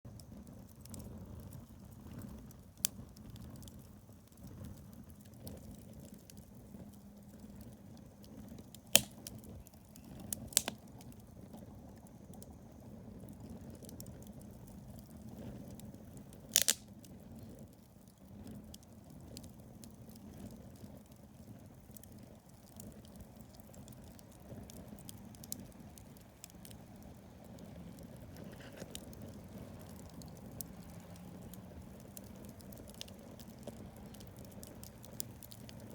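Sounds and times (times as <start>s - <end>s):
campfire flame rushing and crackling: 0.1s - 35.9s
sharp pops from burning wood: 0.2s - 35.9s.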